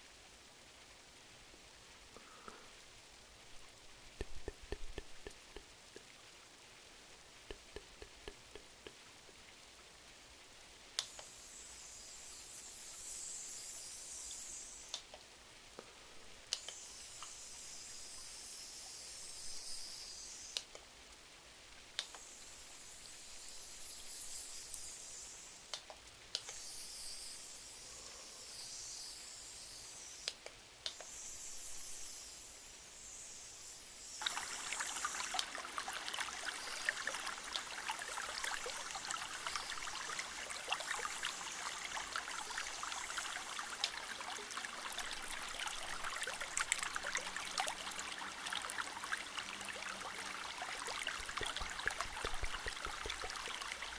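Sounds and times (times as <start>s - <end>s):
dense patter of fine ticks: 0.0s - 53.9s
rain hiss: 0.0s - 53.9s.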